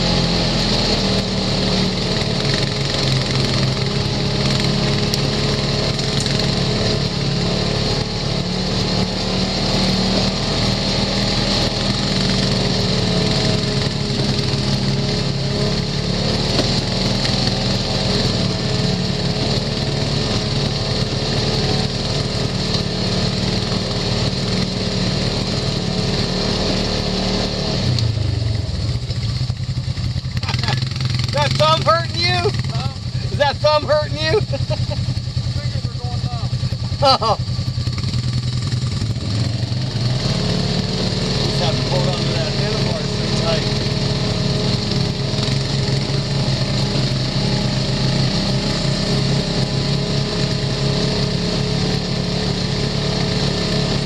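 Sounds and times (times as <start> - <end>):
utility vehicle engine running: 0.0 - 54.0.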